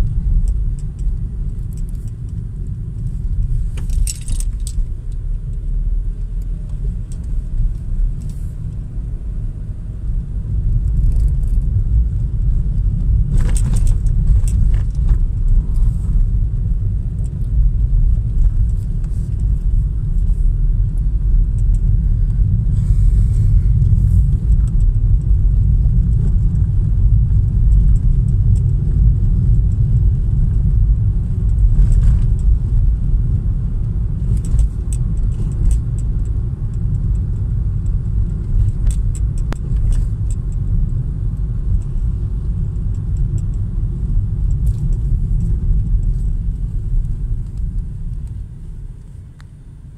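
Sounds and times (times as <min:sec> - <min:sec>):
car engine and tyre rumble: 0:00.0 - 0:49.9
light clicks and rattles: 0:00.1 - 0:05.6, 0:06.2 - 0:08.8, 0:10.6 - 0:22.6, 0:23.8 - 0:48.4.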